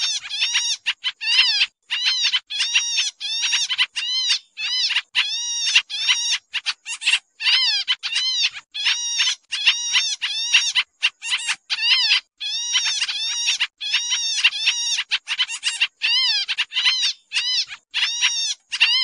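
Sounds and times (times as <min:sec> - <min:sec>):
bird giving harsh nasal calls: 0:00.0 - 0:19.0.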